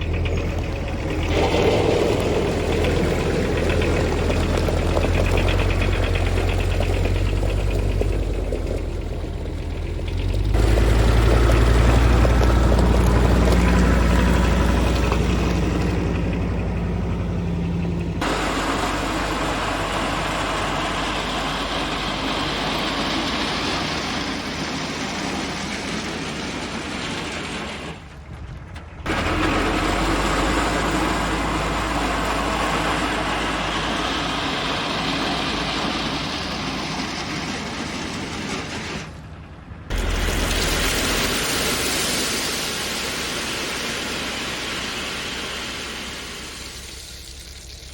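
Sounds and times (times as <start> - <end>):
diesel heavy equipment engine: 0.0 - 47.9.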